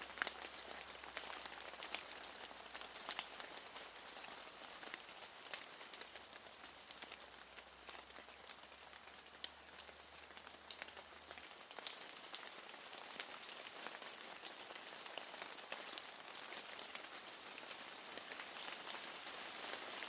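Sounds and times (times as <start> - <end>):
rain on a window: 0.0 - 20.0.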